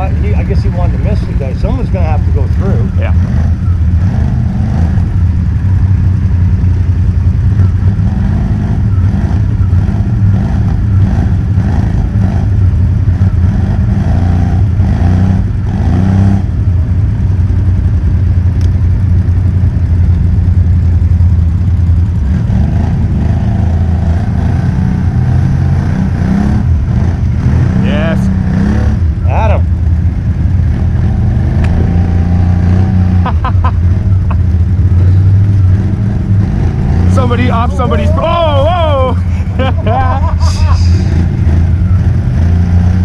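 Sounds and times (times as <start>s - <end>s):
atv engine running: 0.0s - 43.0s.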